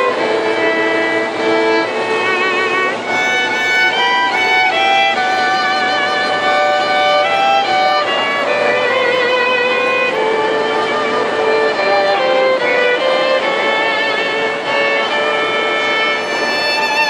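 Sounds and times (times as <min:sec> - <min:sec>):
violins playing with vibrato: 0:00.0 - 0:17.0.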